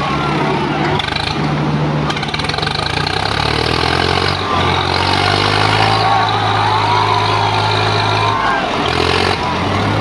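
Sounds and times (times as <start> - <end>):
diesel tractor engines running hard: 0.0 - 10.0.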